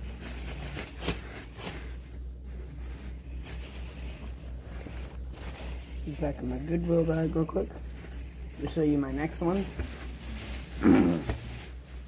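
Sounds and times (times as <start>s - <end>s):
shopping bag rustling: 0.0s - 12.0s.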